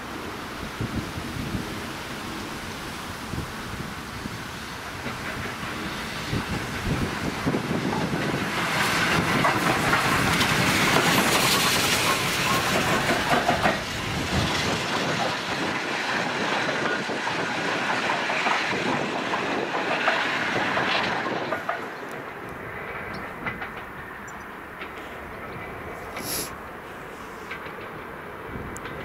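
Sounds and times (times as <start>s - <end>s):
steam locomotive running past: 0.0s - 29.0s
wheels clicking on track: 4.7s - 29.0s.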